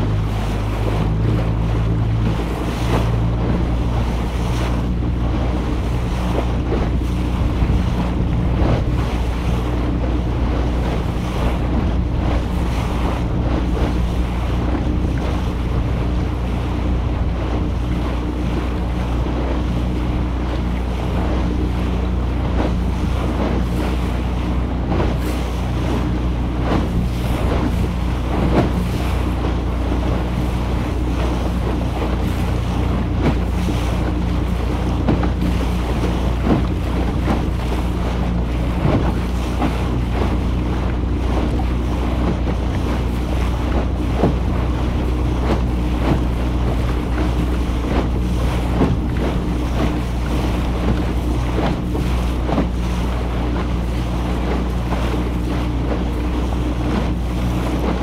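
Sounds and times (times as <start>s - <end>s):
boat engine humming: 0.0s - 58.0s
water splashing past hull: 0.0s - 58.0s
wind buffeting microphone: 0.0s - 58.0s.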